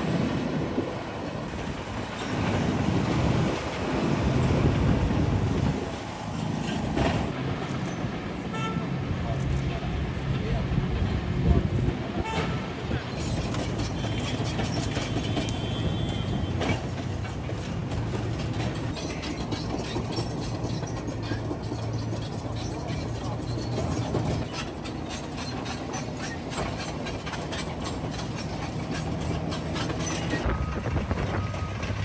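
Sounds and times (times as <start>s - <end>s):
bulldozer diesel drone: 0.0s - 32.0s
metallic clanking of tracks: 0.0s - 32.0s.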